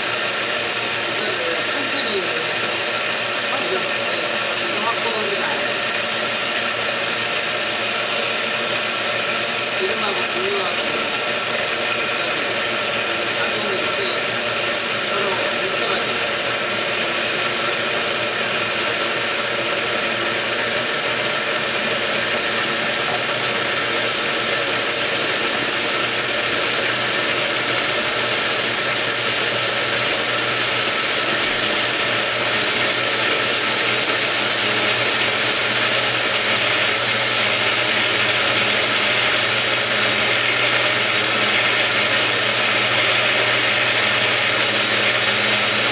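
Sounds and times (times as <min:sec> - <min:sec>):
blender motor running: 0:00.0 - 0:45.9.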